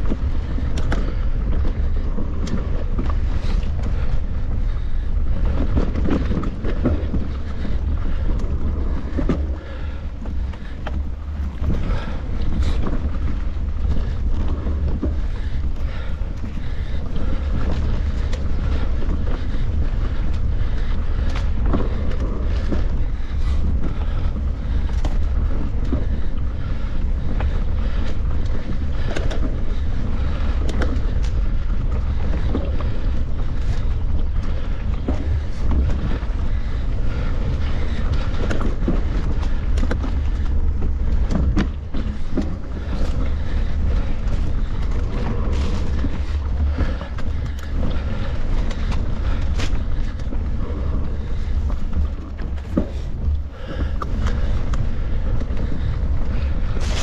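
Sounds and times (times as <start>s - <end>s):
bike clicks and rattling knocks: 0.0s - 57.0s
wind rumble on microphone: 0.0s - 57.0s.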